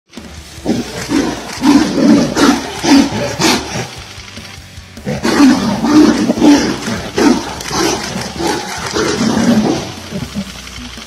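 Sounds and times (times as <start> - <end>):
tigers snarling and growling: 0.6 - 4.1, 5.0 - 10.8.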